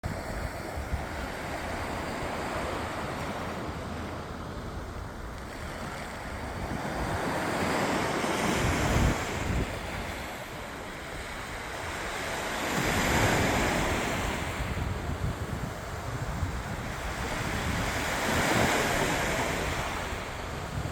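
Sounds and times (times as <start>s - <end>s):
sea waves breaking on beach: 0.0s - 20.9s
wind noise on microphone: 0.0s - 20.9s.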